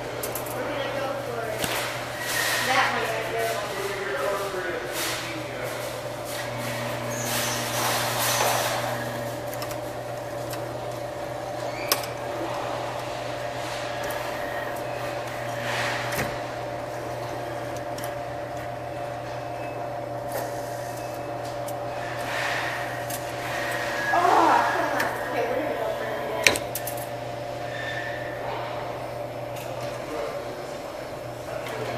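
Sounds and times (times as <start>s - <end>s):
electrical hum: 0.0s - 31.9s.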